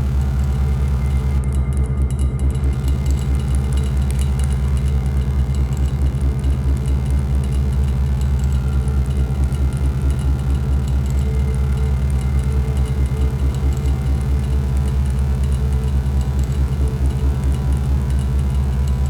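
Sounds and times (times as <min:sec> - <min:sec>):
synthesizer noise drone: 0:00.0 - 0:19.0.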